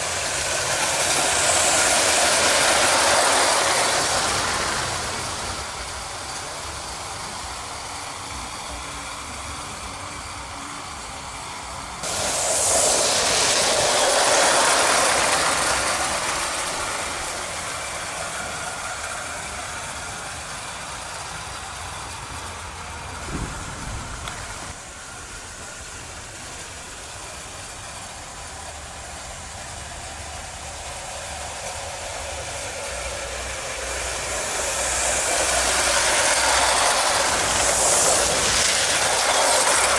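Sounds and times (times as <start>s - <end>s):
model steam locomotive running: 0.0s - 39.9s
wheels on track: 0.0s - 39.9s.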